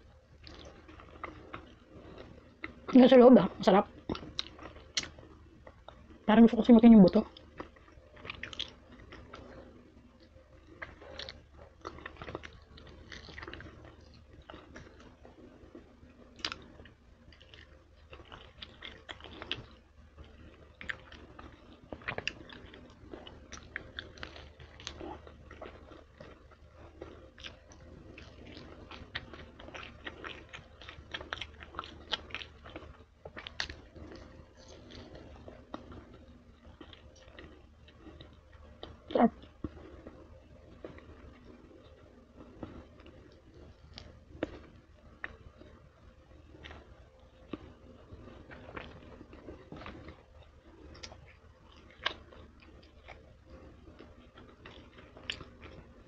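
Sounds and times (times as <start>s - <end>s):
chewing and gnawing: 0.0s - 56.0s.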